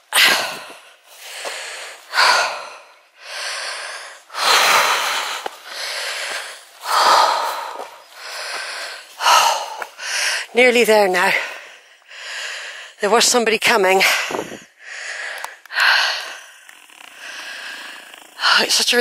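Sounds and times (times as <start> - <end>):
woman breathing hard: 0.1 - 10.6, 11.3 - 13.0, 14.0 - 16.6, 17.2 - 18.5.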